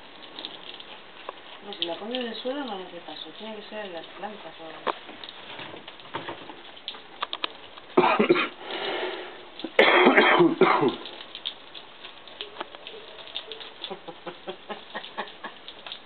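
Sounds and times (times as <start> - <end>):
hose spraying water: 0.0 - 16.0
water dripping and pattering: 0.0 - 16.0.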